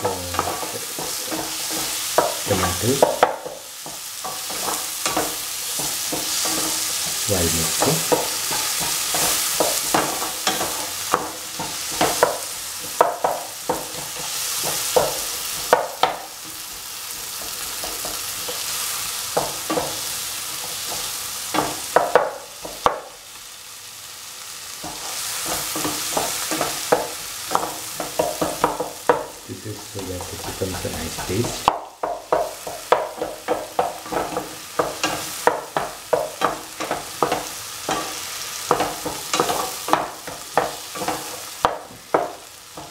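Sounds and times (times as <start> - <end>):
spatula scraping and tapping pan: 0.0 - 23.2, 24.8 - 42.9
vegetables sizzling in oil: 0.0 - 42.9.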